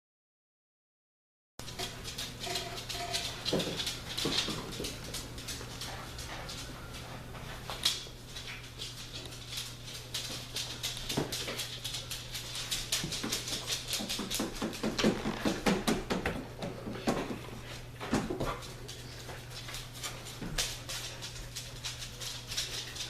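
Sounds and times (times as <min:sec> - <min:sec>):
scratchy clicks of puppies moving: 0:01.6 - 0:16.0, 0:17.4 - 0:23.0
low electrical hum: 0:01.6 - 0:23.0.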